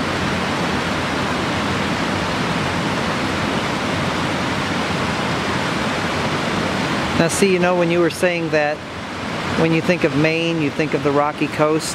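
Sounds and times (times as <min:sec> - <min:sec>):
small waterfall rushing: 0:00.0 - 0:11.9.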